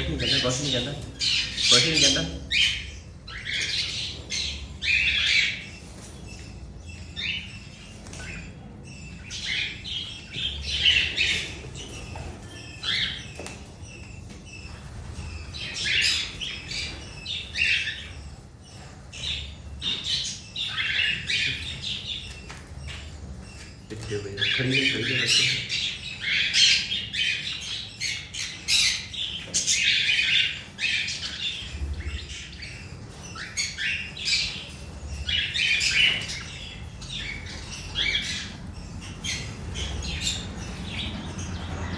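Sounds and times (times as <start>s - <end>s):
birds squawking and chirping: 0.0s - 41.9s.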